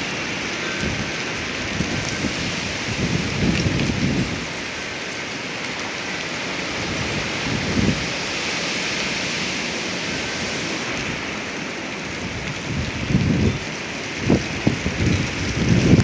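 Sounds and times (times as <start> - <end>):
strong wind rushing: 0.0 - 4.8, 6.4 - 16.0
wind buffeting microphone: 0.0 - 5.0, 6.3 - 16.0.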